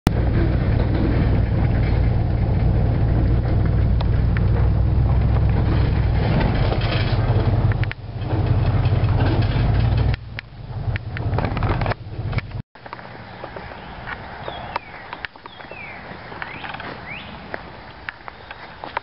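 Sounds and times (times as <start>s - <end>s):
road rumble: 0.0s - 19.0s
car engine drone: 0.1s - 18.5s.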